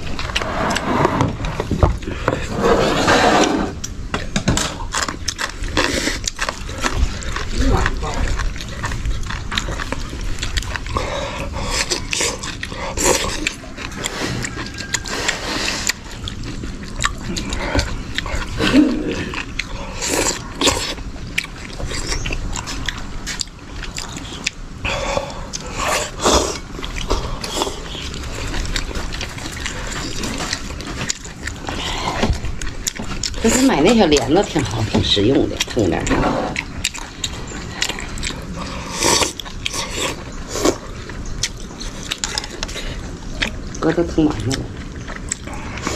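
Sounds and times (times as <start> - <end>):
people chewing and slurping: 0.0 - 45.9.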